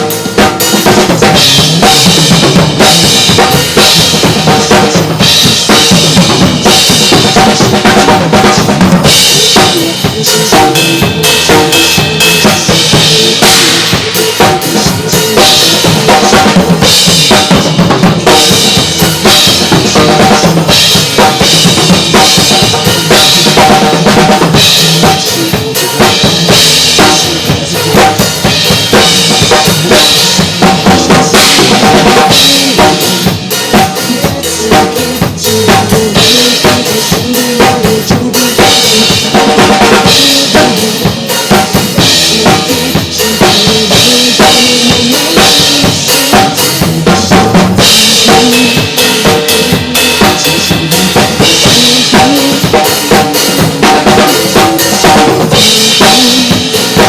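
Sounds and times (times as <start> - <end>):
drum kit playing: 0.0 - 57.0
pop backing track: 0.0 - 57.0.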